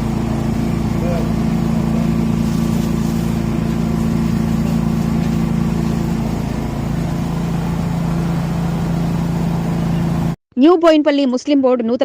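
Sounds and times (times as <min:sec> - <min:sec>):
small sprayer engine running: 0:00.0 - 0:10.4.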